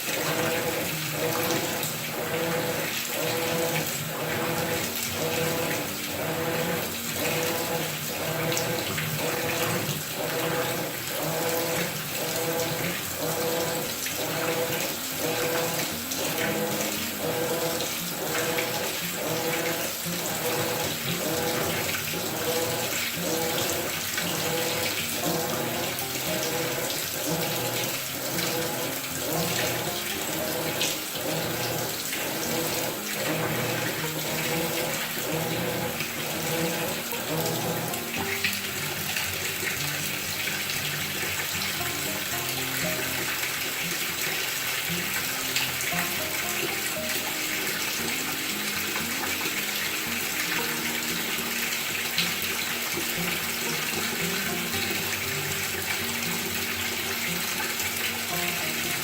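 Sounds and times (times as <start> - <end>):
water rushing into washer tub: 0.0 - 59.0.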